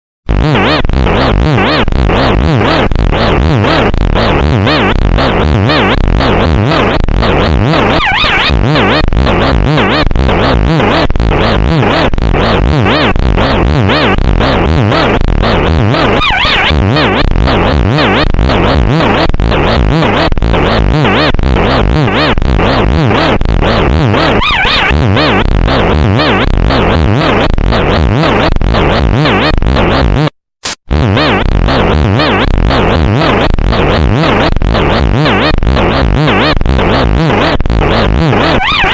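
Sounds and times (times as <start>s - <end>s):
distorted pulsing electronic alarm: 0.3s - 19.1s, 20.8s - 28.4s, 30.9s - 38.9s.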